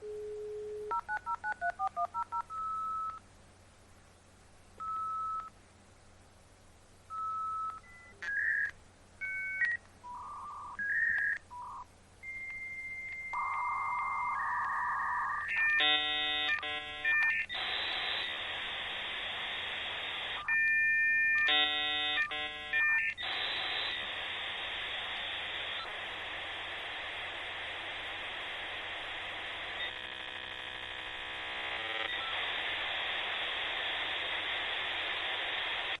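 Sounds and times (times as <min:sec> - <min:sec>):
dial-up modem tones and hiss: 0:00.0 - 0:03.2, 0:04.8 - 0:05.5, 0:07.1 - 0:36.0.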